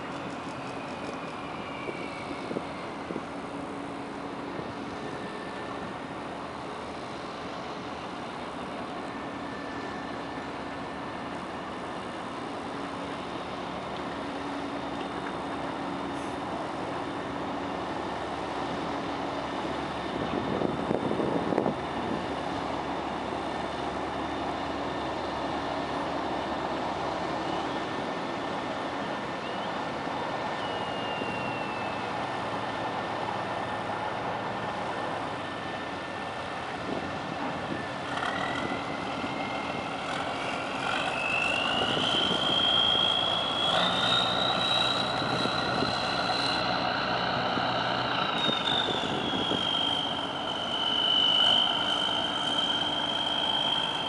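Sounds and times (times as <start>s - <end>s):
high-pitched engine whine: 0.0s - 54.0s.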